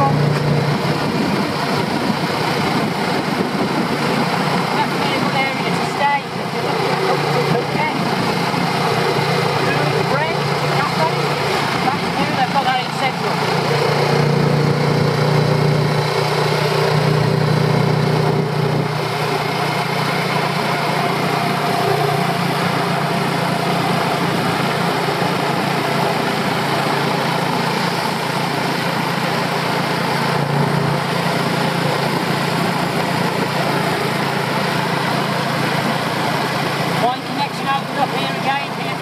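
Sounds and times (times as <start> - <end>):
road and wind noise: 0.0 - 39.0
small motorbike engine running: 0.0 - 39.0.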